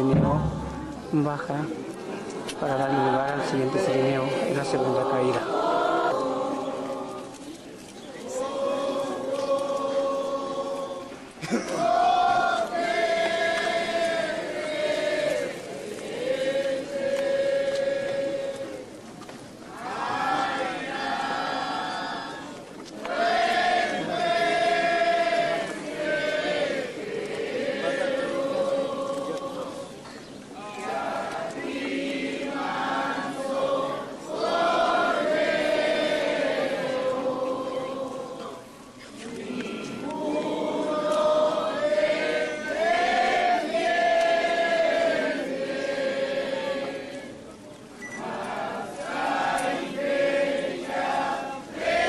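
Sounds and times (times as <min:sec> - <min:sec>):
group singing a hymn: 0:00.0 - 0:19.0, 0:19.6 - 0:52.0.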